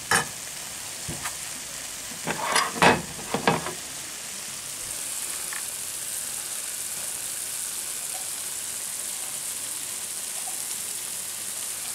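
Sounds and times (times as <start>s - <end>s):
food frying in a pan: 0.0s - 11.9s.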